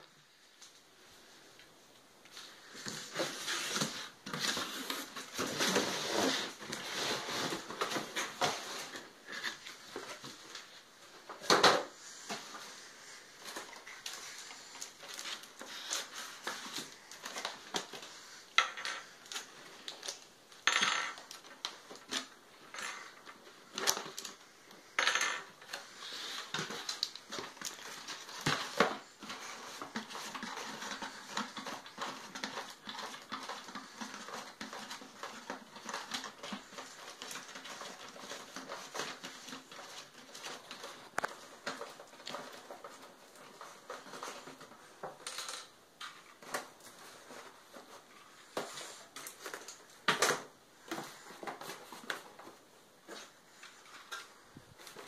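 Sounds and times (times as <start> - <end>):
cardboard and plastic packaging rustling: 0.0 - 55.0.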